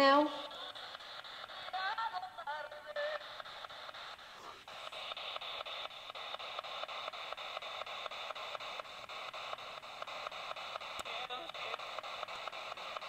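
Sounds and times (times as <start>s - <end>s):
radio scanner static sweeping: 0.0s - 13.0s.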